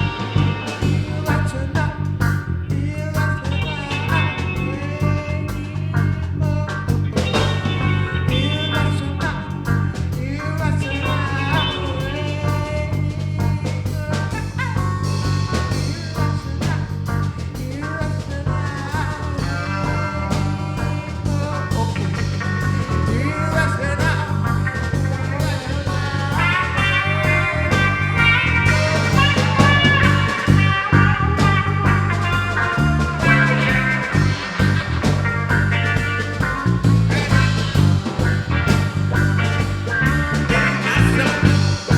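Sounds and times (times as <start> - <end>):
bass line: 0.0 - 41.9
drums: 0.0 - 41.9
lead guitar with bending notes: 0.0 - 41.9.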